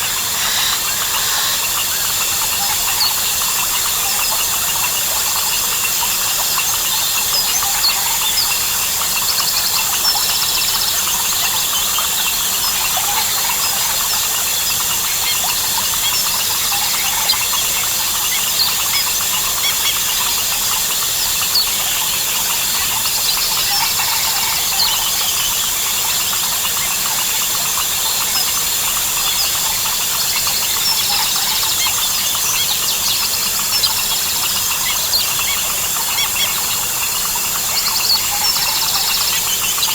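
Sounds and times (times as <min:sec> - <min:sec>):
bird calls: 0:00.0 - 0:39.9
frog calls: 0:00.0 - 0:39.9
insects trilling: 0:00.0 - 0:39.9.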